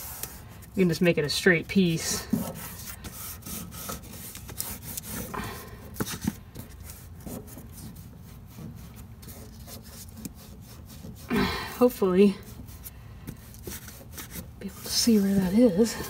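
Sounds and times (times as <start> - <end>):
paper rubbing on rough metal: 0.0 - 16.0.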